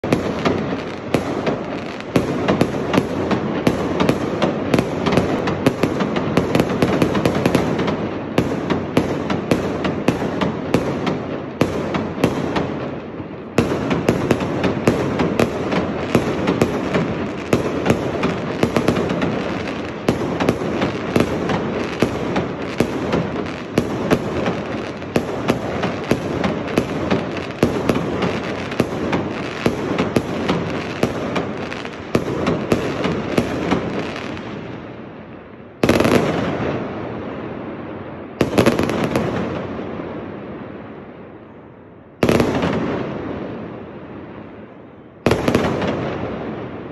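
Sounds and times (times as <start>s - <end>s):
loud firework bursts with rumble: 0.0s - 41.0s, 42.2s - 46.9s
fireworks bangs and crackle: 0.0s - 46.9s.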